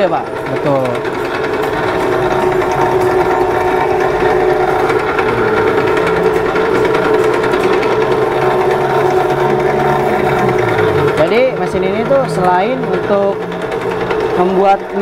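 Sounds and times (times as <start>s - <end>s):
machine rollers humming: 0.0s - 15.0s.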